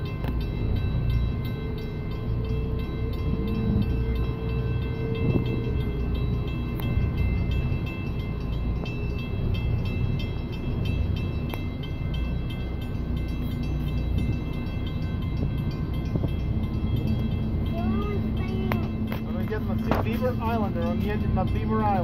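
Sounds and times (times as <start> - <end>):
boat engines idling: 0.0 - 22.0.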